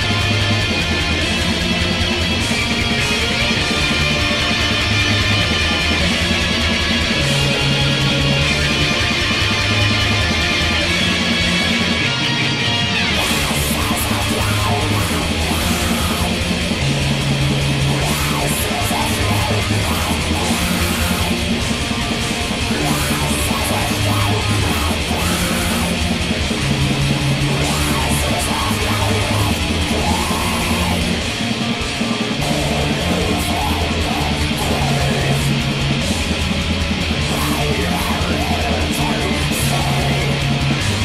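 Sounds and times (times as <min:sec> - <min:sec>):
bass guitar: 0:00.0 - 0:41.0
distorted electric guitars: 0:00.0 - 0:41.0
programmed drums: 0:00.0 - 0:41.0.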